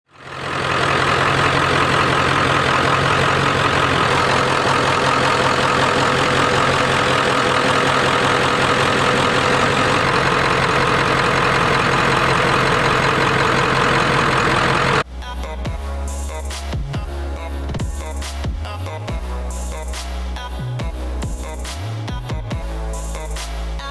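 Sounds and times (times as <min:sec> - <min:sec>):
diesel engine idling: 0:00.1 - 0:23.9.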